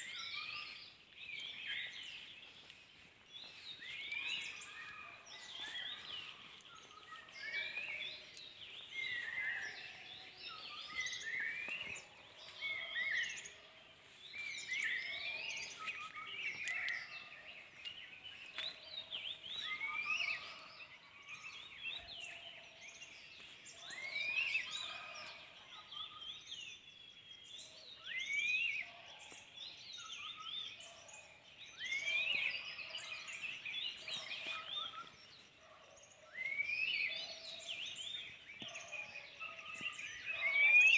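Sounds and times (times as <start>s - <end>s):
forest birdsong: 0.0s - 40.9s.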